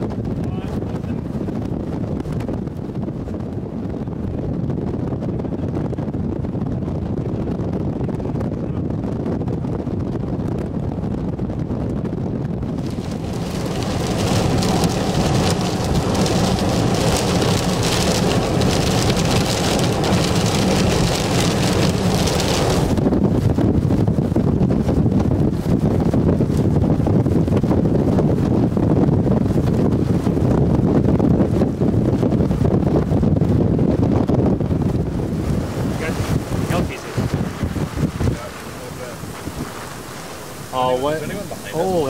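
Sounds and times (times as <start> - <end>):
heavy rain pelting a vehicle: 0.0 - 42.0
wind rumbling: 0.0 - 42.0.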